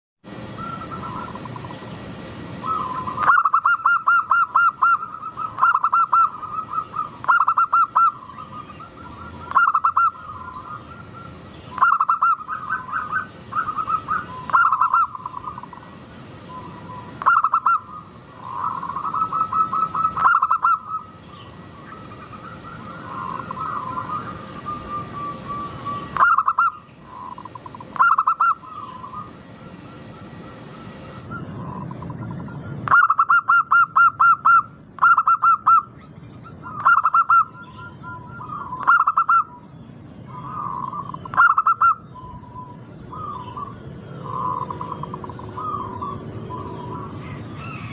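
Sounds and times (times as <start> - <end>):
doves cooing: 0.4 - 47.9.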